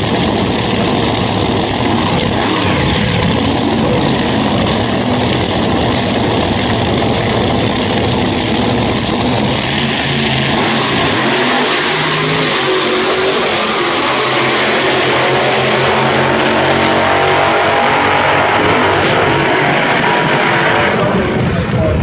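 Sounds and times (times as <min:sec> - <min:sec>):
racing car engine revving: 0:00.0 - 0:22.0.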